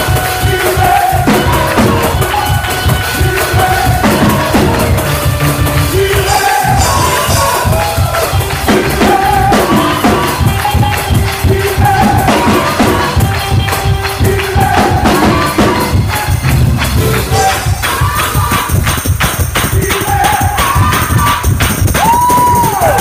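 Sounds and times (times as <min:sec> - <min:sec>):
held melody notes: 0:00.0 - 0:19.1
drum kit: 0:00.0 - 0:23.0.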